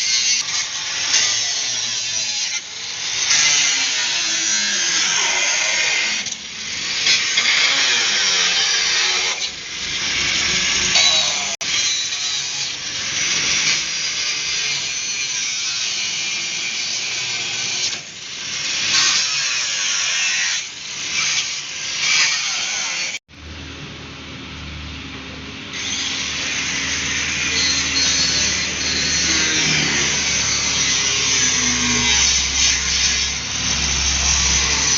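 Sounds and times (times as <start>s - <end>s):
power tool cutting steel: 0.0s - 23.2s, 25.7s - 34.9s.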